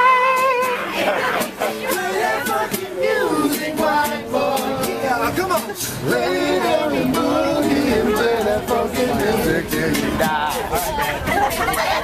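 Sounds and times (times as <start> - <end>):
men singing: 0.0 - 11.3
strummed acoustic guitar: 0.0 - 11.8.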